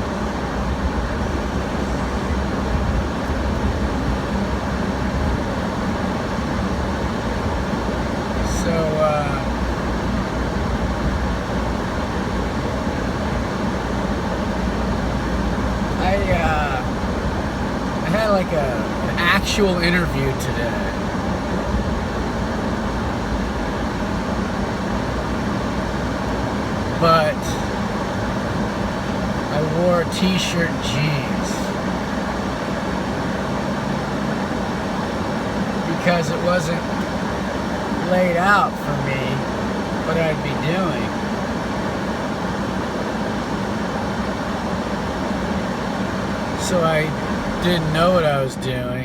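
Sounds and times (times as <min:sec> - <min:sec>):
air conditioner running: 0:00.0 - 0:49.0.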